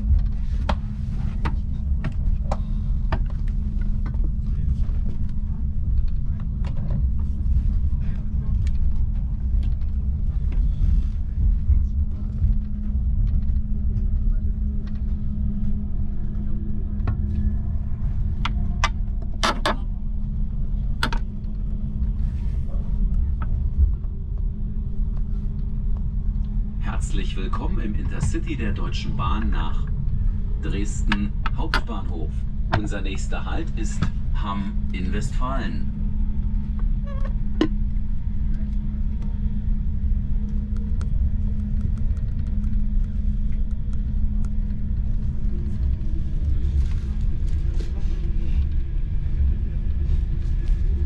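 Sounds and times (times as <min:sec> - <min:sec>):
low hum: 0:00.0 - 0:51.0
train coach rumble: 0:00.0 - 0:51.0.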